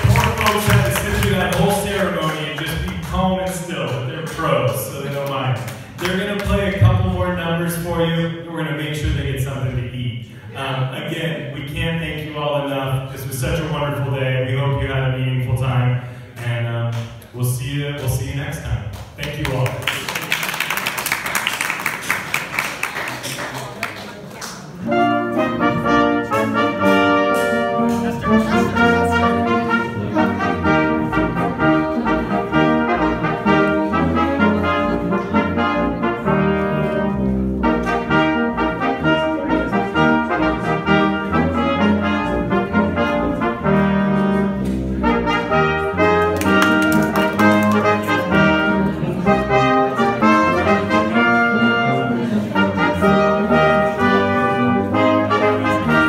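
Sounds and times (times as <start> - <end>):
brass band music: 0.0 - 23.1, 24.7 - 56.0.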